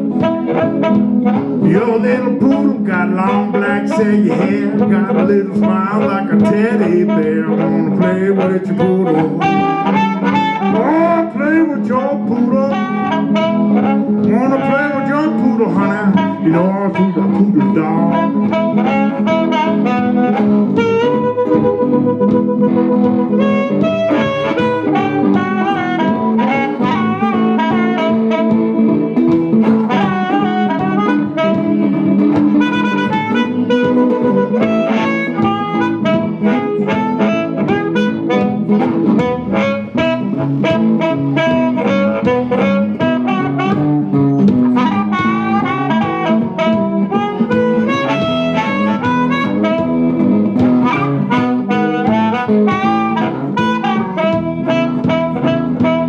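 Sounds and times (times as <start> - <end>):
live blues music: 0.0 - 56.0.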